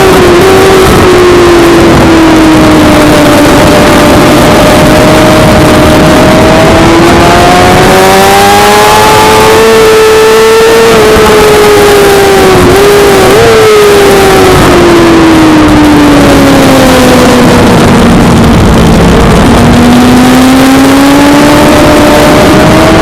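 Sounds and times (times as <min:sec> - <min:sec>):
racing motorcycle engine at high revs: 0:00.0 - 0:23.0
steady rushing noise: 0:00.0 - 0:23.0.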